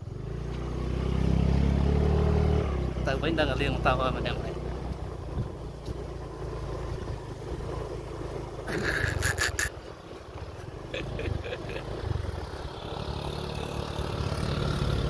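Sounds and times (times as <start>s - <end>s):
motorbike engine rumbling: 2.7s - 15.0s.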